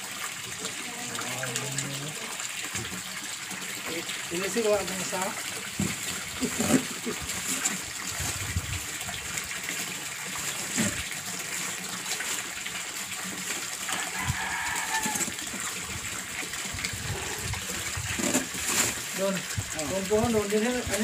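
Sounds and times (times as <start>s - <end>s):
water gushing into pond: 0.0s - 21.0s.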